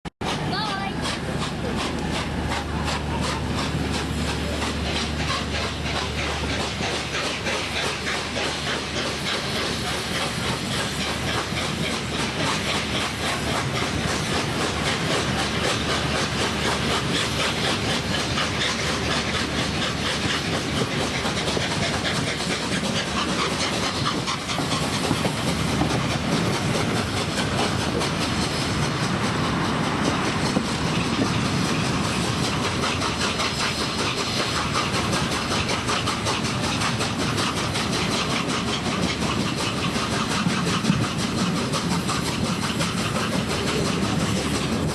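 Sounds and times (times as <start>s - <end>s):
steam hissing: 0.2s - 44.9s
steam locomotive exhaust beat: 0.2s - 44.9s
train wheels clattering on rails: 0.2s - 44.9s.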